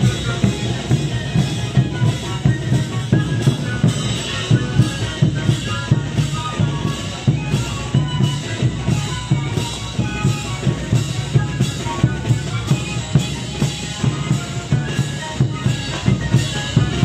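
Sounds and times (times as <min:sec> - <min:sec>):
band melody: 0:00.0 - 0:17.0
bass and snare drums beating: 0:00.0 - 0:17.0
marching band playing: 0:00.0 - 0:17.0.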